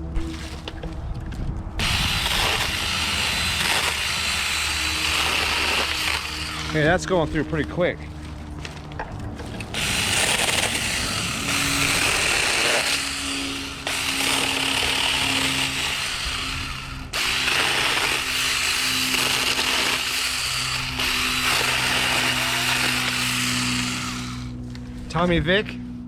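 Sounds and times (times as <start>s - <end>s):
electric chainsaw cutting wood: 0.0s - 0.9s, 1.8s - 24.6s
motor hum: 0.0s - 26.0s.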